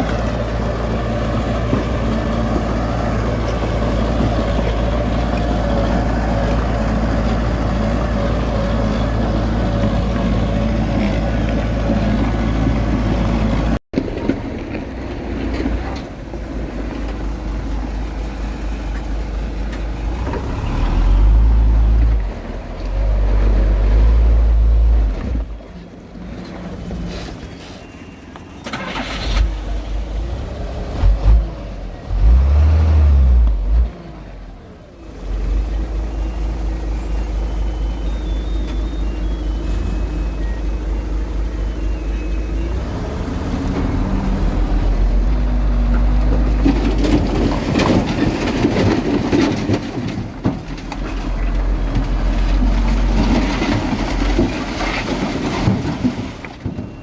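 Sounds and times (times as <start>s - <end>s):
earthmoving machine diesel engine: 0.0s - 57.0s.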